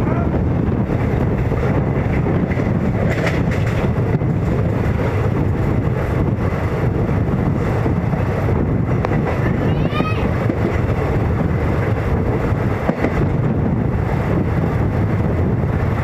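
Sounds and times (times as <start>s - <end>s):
train in motion: 0.0s - 16.0s
wind buffeting microphone: 0.0s - 16.0s.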